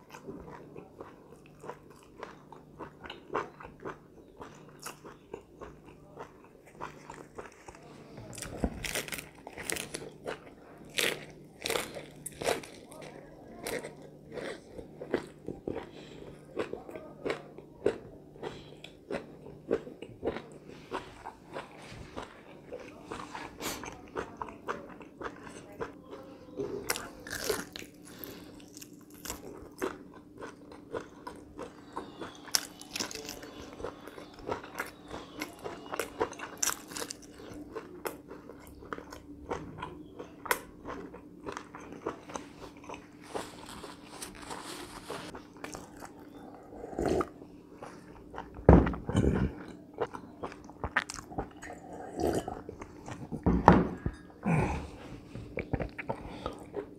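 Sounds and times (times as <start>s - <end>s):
crunchy chewing and biting: 0.0s - 53.4s
faint hum: 0.0s - 56.9s.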